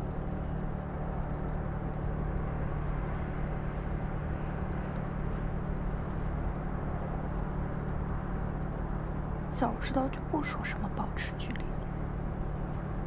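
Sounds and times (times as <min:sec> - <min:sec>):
low engine hum: 0:00.0 - 0:13.0
road rumble: 0:00.0 - 0:13.0.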